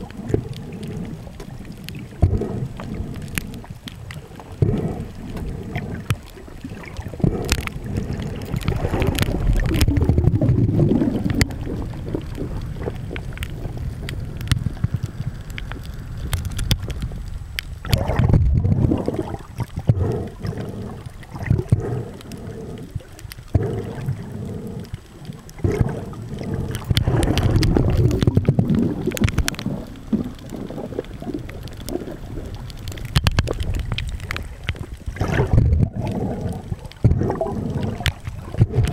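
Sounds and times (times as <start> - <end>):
underwater rumbling and sloshing: 0.0 - 38.9.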